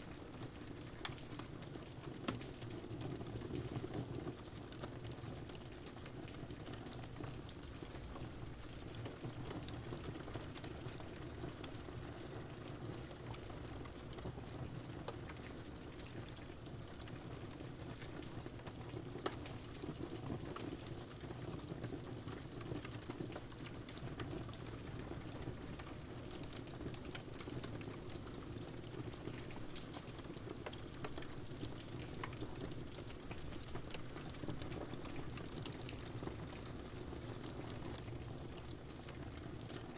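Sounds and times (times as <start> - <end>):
steady rain: 0.0 - 39.9
crackling fireplace fire: 0.1 - 39.9.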